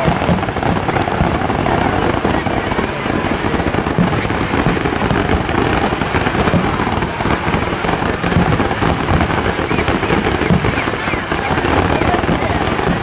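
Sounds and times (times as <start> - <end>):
fireworks bursts and crackle: 0.0 - 13.0.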